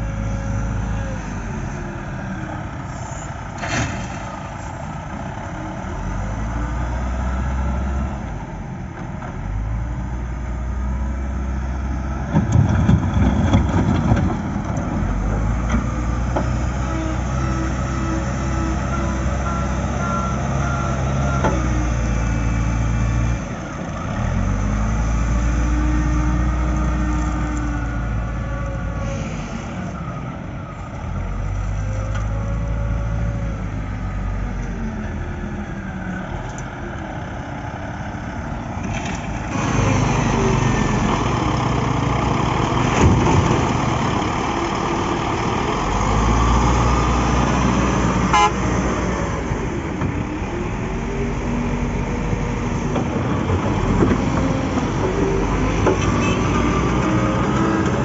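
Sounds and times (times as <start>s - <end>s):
diesel loader engine revving: 0.0s - 58.0s.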